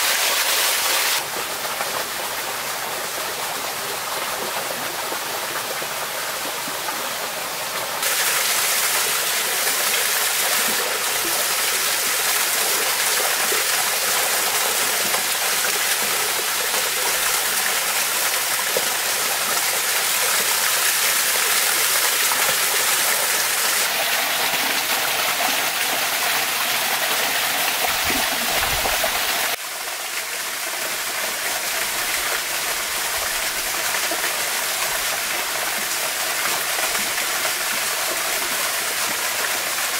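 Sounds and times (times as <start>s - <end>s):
stream and waterfall rushing: 0.0s - 39.9s.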